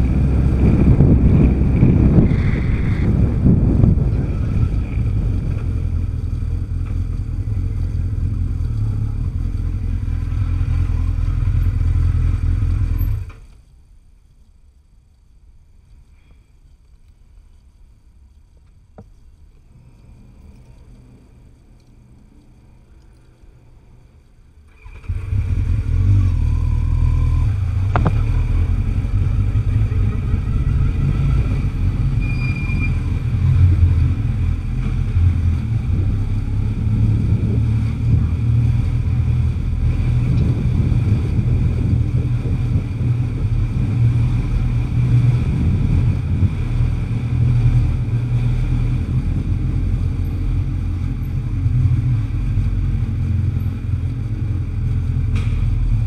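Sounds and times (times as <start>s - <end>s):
motorcycle engine rumbling: 0.0s - 14.0s, 18.6s - 56.0s.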